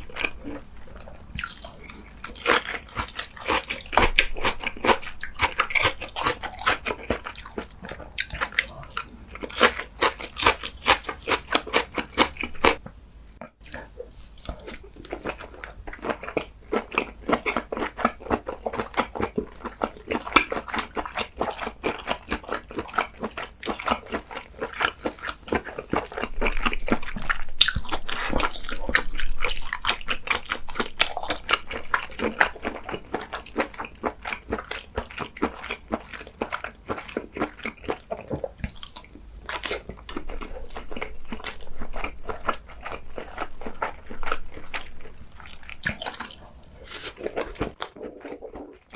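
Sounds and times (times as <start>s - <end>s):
person chewing and crunching food: 0.0s - 48.9s.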